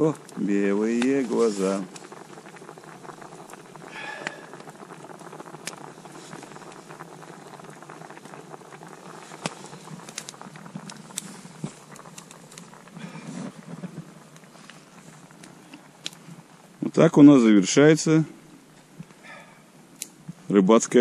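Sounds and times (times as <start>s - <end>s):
campfire pops and crackles: 0.0s - 21.0s
soup boiling and bubbling: 0.0s - 21.0s.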